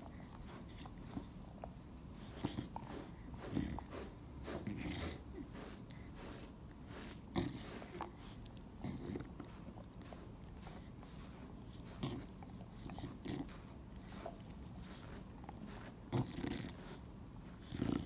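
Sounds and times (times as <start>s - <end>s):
dog chewing and licking: 0.0s - 18.0s.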